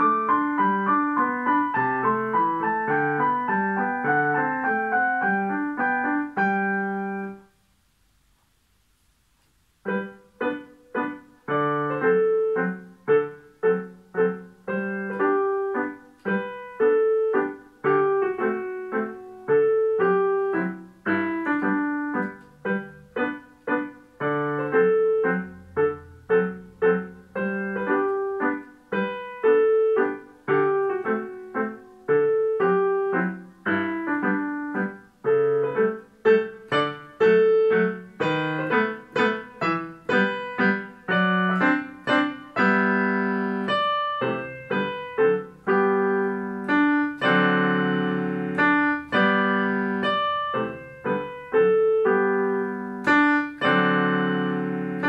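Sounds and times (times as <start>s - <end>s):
piano playing: 0.0s - 7.6s, 9.8s - 55.0s.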